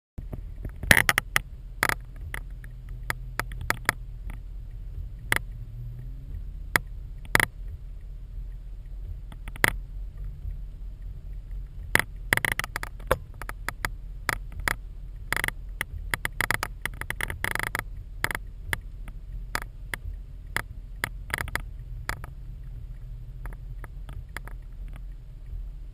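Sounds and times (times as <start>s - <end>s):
raindrops tapping on plastic housing: 0.2s - 5.6s, 9.0s - 10.4s, 11.4s - 25.5s
steady low rumble: 0.2s - 25.9s.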